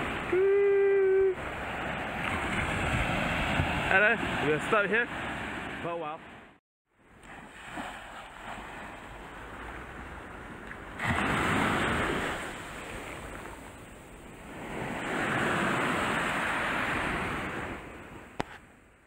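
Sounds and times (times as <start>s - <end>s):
waves breaking on sand: 0.0s - 6.5s, 7.1s - 18.4s.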